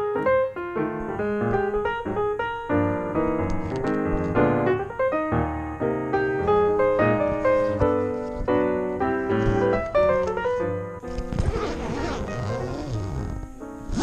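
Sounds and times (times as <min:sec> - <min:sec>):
piano playing quick runs: 0:00.0 - 0:14.0.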